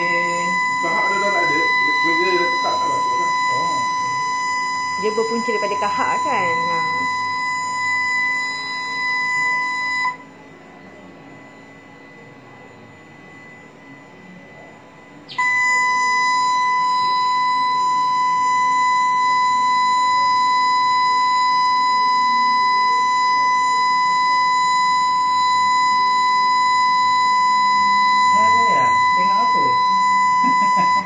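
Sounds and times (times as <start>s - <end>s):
steady electronic tone: 0.0s - 31.0s.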